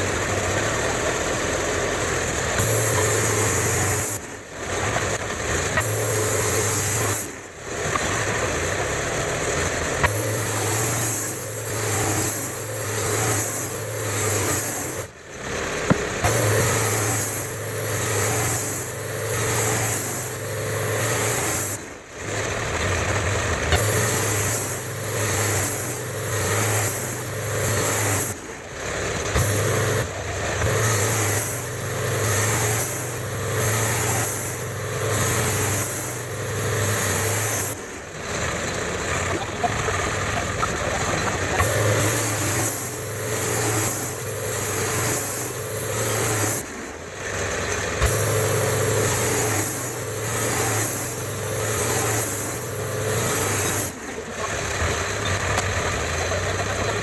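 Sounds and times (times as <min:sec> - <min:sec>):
sawmill engine running: 0:00.0 - 0:57.0
saw blade hissing: 0:02.5 - 0:22.0, 0:23.6 - 0:57.0.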